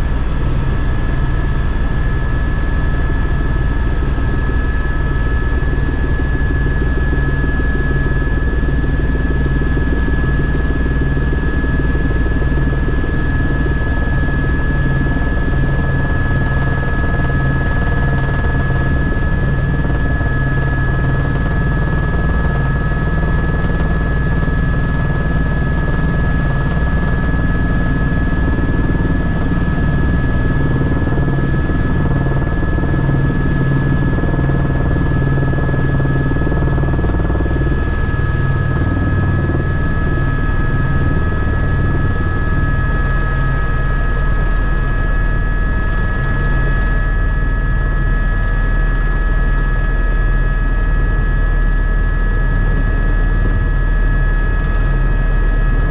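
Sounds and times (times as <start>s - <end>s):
aircraft engine drone in cabin: 0.0s - 55.9s.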